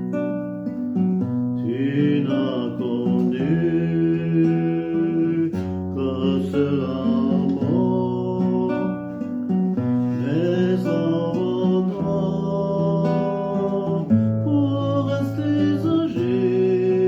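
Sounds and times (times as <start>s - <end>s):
acoustic guitar: 0.0s - 17.0s
man singing a slow ballad: 1.6s - 17.0s.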